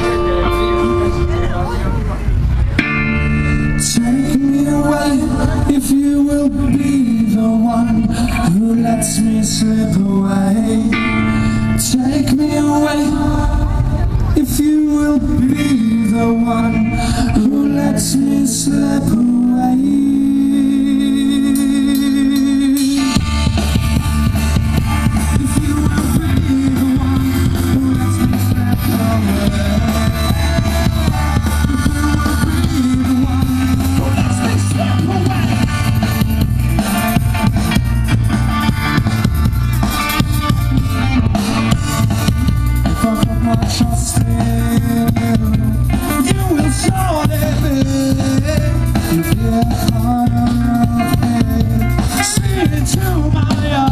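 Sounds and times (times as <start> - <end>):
rock band playing: 0.0 - 53.9.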